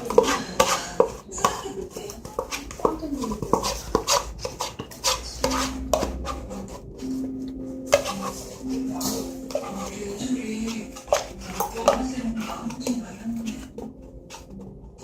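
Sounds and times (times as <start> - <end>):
cutlery scraping a plate: 0.0 - 7.2, 7.9 - 15.0.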